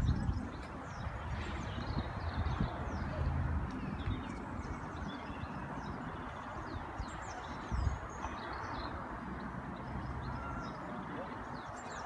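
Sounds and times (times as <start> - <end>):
outdoor background rush: 0.0 - 12.0
small birds chirping: 0.0 - 12.0.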